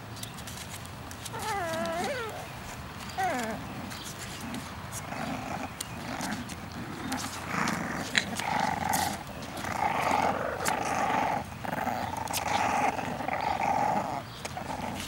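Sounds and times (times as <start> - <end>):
puppies growling: 1.2 - 15.0.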